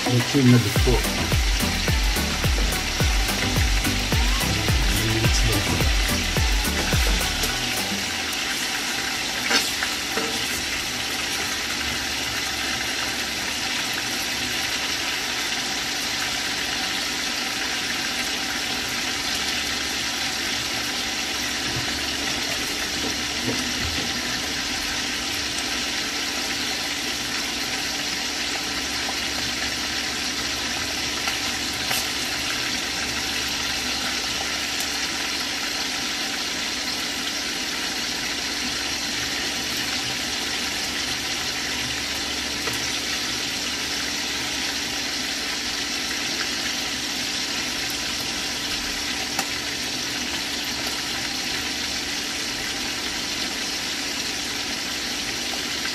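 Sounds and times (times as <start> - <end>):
chicken frying in oil: 0.0 - 55.9.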